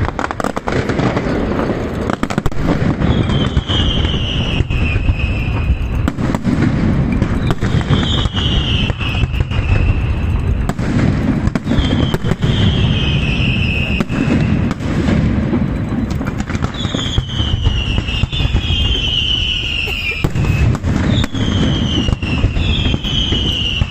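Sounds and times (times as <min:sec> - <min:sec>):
fireworks crackling and banging: 0:00.0 - 0:23.9
whistling firework shells: 0:00.0 - 0:23.9.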